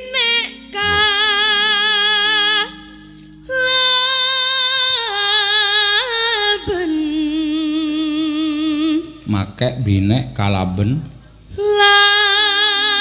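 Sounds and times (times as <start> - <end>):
woman singing with vibrato: 0.0 - 9.3, 11.4 - 13.0
low held accompaniment tones: 0.0 - 13.0.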